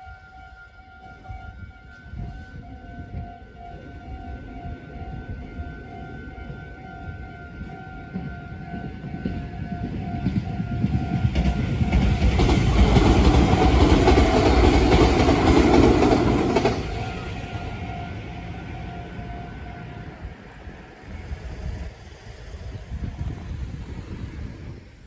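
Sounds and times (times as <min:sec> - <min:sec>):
crossing warning bell ringing: 0:00.0 - 0:21.3
train rumble and wheel clatter: 0:00.0 - 0:25.0.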